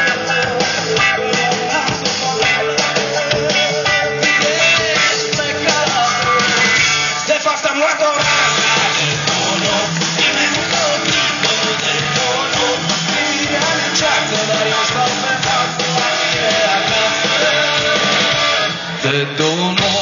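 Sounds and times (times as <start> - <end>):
amplified guitars: 0.0 - 20.0
person singing: 0.0 - 20.0.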